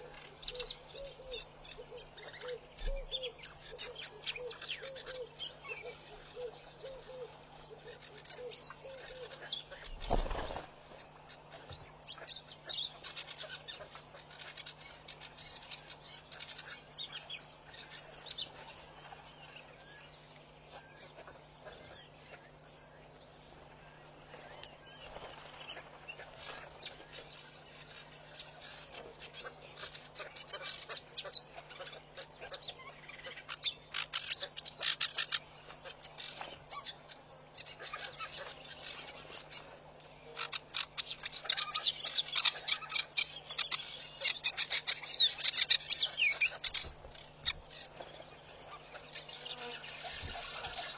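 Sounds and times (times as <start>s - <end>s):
faint low hum: 0.0s - 50.9s
insect chirping: 0.0s - 50.9s
rapid bird chatter: 0.0s - 50.9s.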